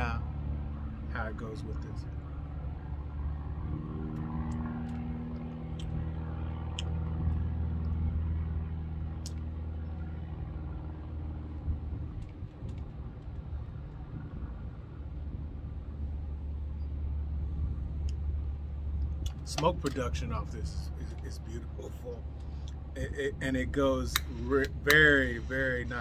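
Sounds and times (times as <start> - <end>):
low rumble of motor traffic: 0.0 - 26.0
passing engine hum: 0.0 - 26.0.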